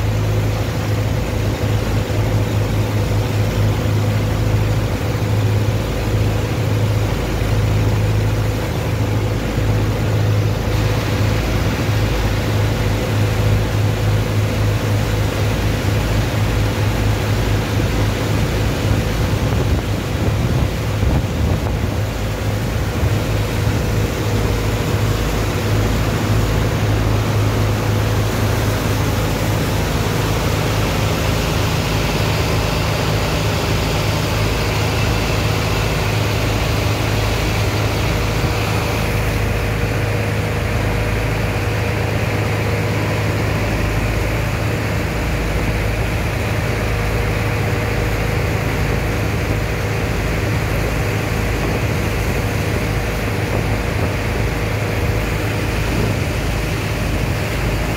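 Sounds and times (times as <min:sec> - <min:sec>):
heavy engine humming: 0:00.0 - 0:57.9.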